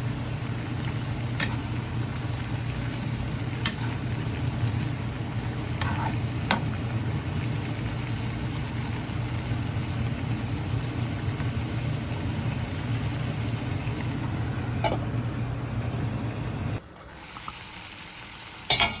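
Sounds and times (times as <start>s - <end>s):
low drone with hiss: 0.0s - 16.8s.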